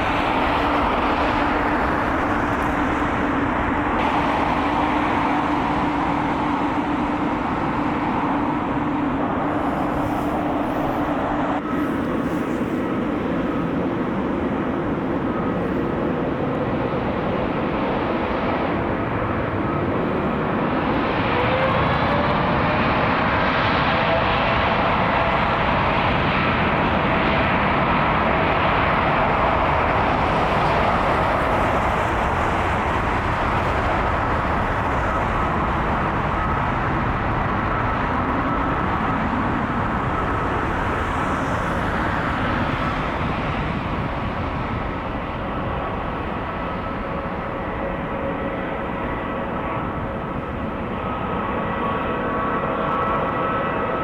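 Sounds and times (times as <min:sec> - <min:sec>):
jet engines at takeoff: 0:00.0 - 0:54.0.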